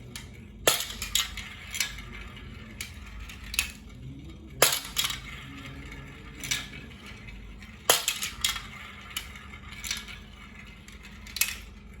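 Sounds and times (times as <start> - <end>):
faint steady hum: 0.0 - 12.0
marbles clacking on track: 0.0 - 12.0.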